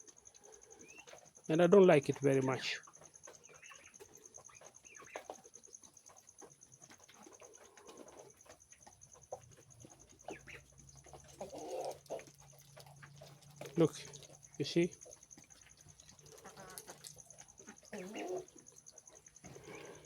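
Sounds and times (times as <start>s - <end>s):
poultry cooing softly: 0.0s - 20.0s.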